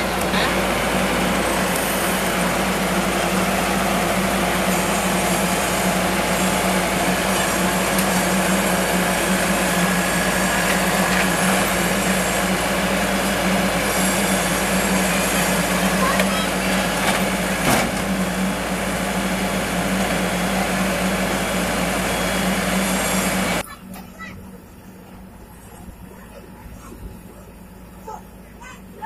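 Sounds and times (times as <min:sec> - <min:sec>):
combine harvester diesel engine: 0:00.0 - 0:29.0.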